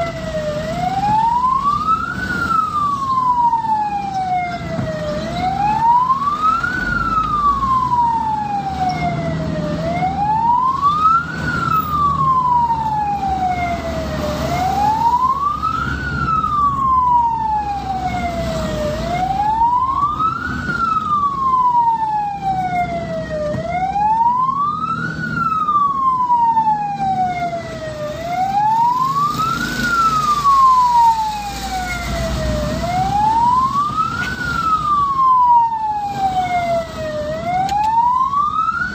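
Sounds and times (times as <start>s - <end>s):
ambulance siren wailing: 0.0s - 38.9s
engine and road rumble: 0.0s - 38.9s.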